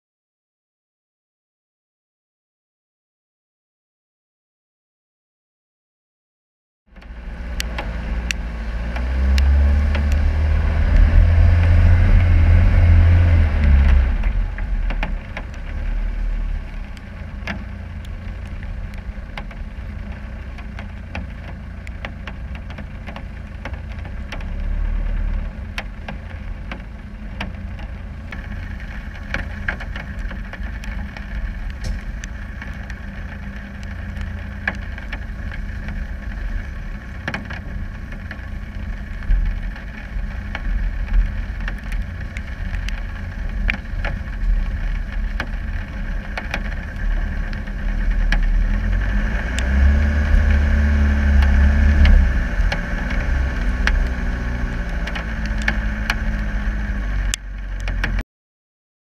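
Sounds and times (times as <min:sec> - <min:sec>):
diesel engine low rumble: 0:06.9 - 0:58.2.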